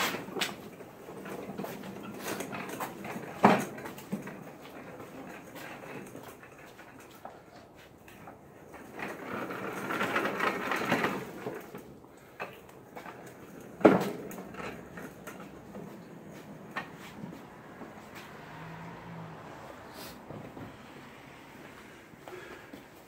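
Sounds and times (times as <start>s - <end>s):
caster wheels rattling on pavement: 0.0s - 23.0s.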